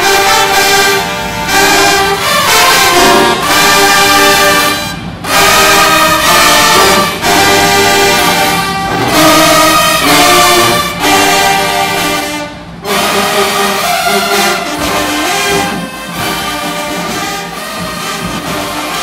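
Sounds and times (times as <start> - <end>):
brass marching band playing: 0.0 - 19.0.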